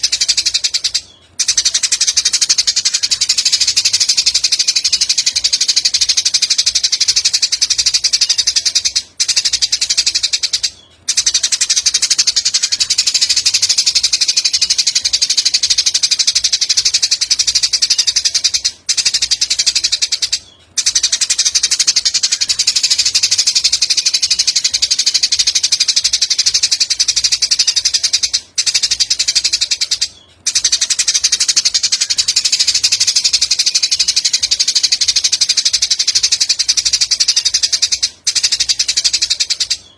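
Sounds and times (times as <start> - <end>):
high-pitched bird trill: 0.0 - 39.9.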